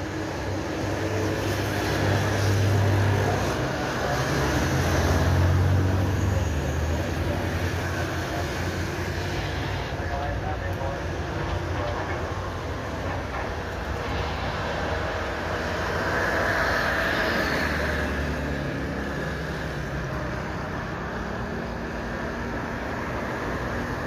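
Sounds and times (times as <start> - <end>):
jet engines rushing: 0.2 - 24.0.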